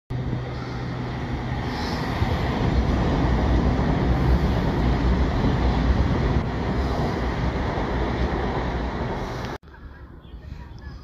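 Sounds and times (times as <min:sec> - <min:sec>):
passenger train rumbling: 0:00.1 - 0:11.0.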